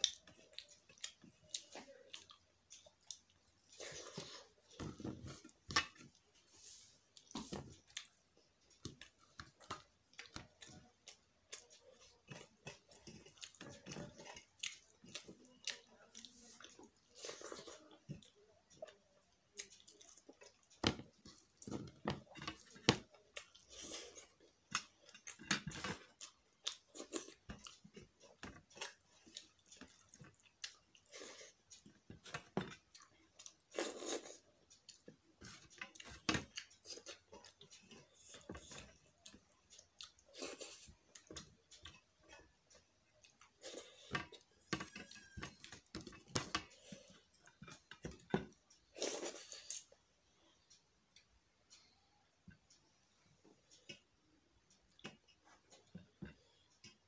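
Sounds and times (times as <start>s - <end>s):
person chewing with wet smacks: 0.0s - 50.0s, 53.7s - 57.0s.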